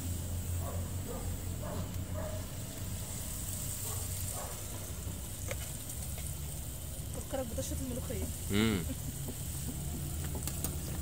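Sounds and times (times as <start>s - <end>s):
gas burner rumbling and hissing: 0.0s - 11.0s.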